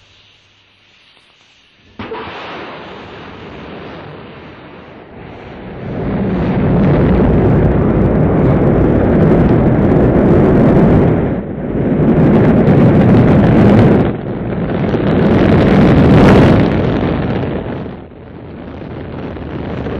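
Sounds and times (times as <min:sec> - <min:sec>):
rocket engine roar: 0:01.8 - 0:19.9.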